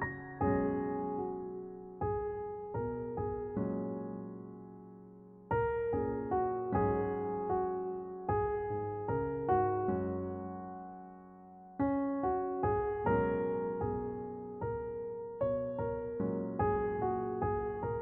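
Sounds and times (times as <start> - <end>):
soft piano playing slow chords: 0.0 - 18.0.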